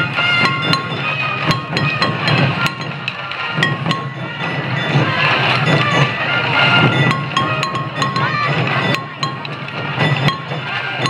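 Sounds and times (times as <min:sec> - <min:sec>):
short high melody notes: 0:00.0 - 0:10.8
drums beaten at quick pace: 0:00.0 - 0:11.0
sharp clacks: 0:00.0 - 0:11.0.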